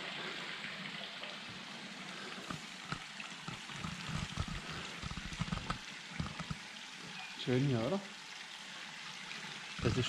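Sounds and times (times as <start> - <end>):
light ticks and splashes: 0.0 - 10.0
stream water rushing: 0.0 - 10.0.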